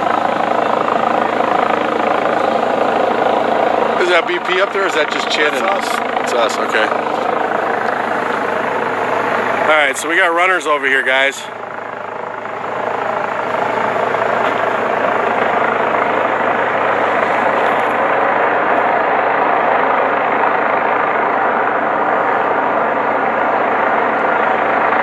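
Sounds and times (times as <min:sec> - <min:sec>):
helicopter rotor and engine: 0:00.0 - 0:25.0.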